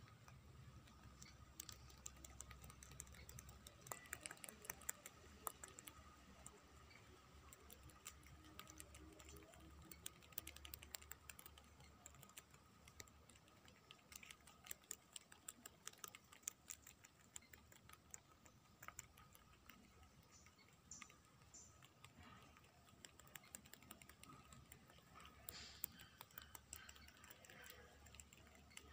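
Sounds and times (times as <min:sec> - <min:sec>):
rabbit chewing a leaf: 0:00.0 - 0:28.9.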